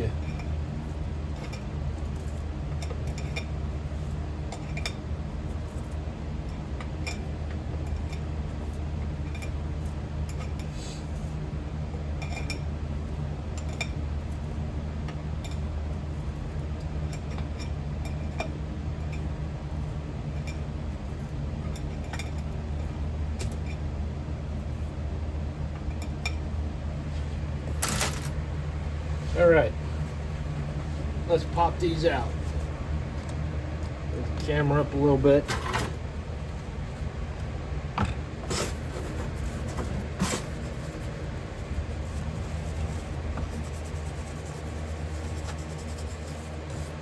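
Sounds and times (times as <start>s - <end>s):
furnace humming: 0.0s - 47.0s.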